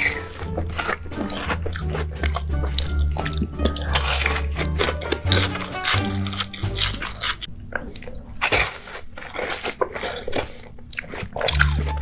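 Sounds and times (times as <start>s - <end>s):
close chewing and biting: 0.0s - 12.0s.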